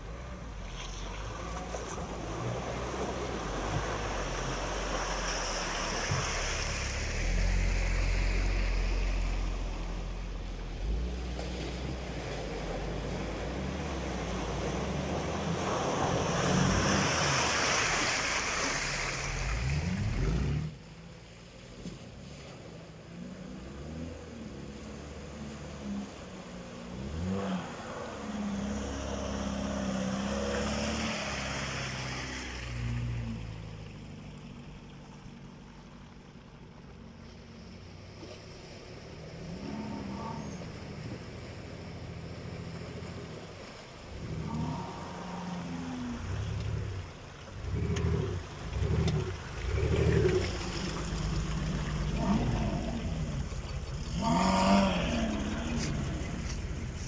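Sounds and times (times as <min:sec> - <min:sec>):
vehicle engine revving: 0:00.0 - 0:20.9, 0:23.1 - 0:35.0, 0:38.2 - 0:57.0
water rushing and splashing: 0:00.0 - 0:57.0.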